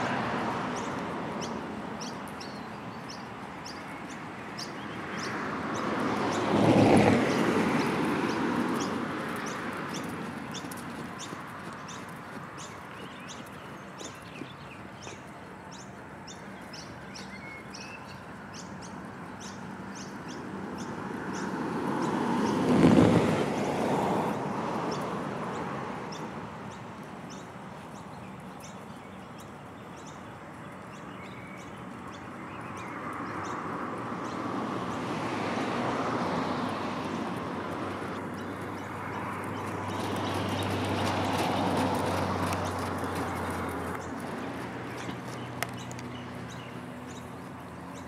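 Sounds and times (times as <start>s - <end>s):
vehicles passing on road: 0.0s - 48.0s
birds chirping: 0.5s - 22.8s, 23.4s - 48.0s.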